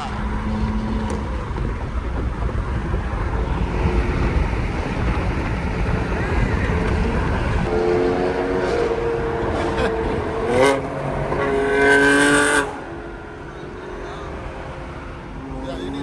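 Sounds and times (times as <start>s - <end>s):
car engine and road rumble: 0.0s - 16.0s
wind buffeting microphone: 0.0s - 16.0s.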